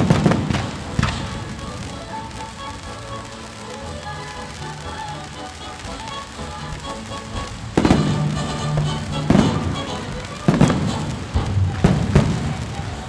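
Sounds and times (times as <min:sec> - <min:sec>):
fireworks bangs echoing: 0:00.0 - 0:05.0, 0:06.0 - 0:13.0
orchestral music: 0:00.0 - 0:13.0.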